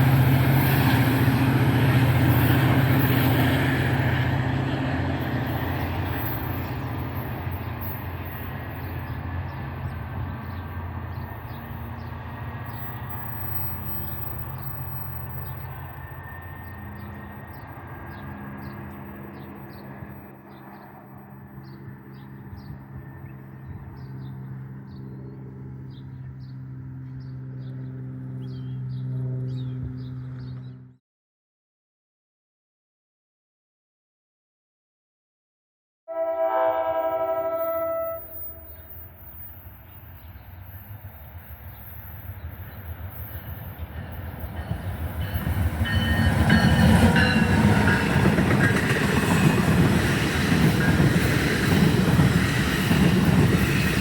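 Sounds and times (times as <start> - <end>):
train rumbling past: 0.0 - 30.9, 36.1 - 54.0.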